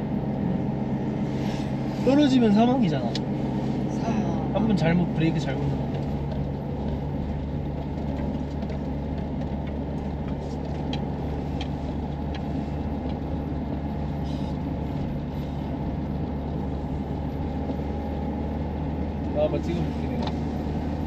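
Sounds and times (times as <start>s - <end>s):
diesel engine running: 0.0s - 21.0s
road and tyre noise: 0.0s - 21.0s.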